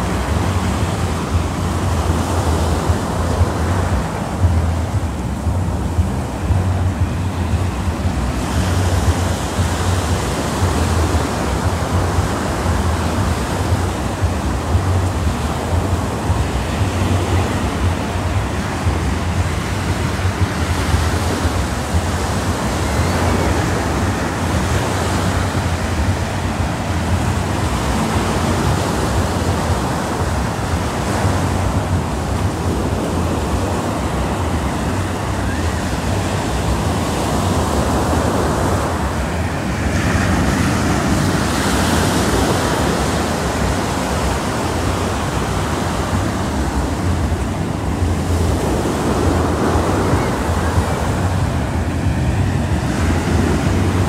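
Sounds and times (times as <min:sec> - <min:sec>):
small waves breaking on shore: 0:00.0 - 0:54.0
wind buffeting microphone: 0:00.0 - 0:54.0.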